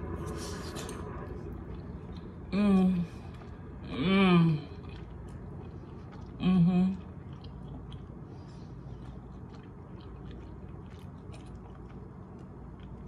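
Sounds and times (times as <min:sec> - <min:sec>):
low steady hum: 0:00.0 - 0:13.0
soft chewing with mouth clicks: 0:00.0 - 0:13.0.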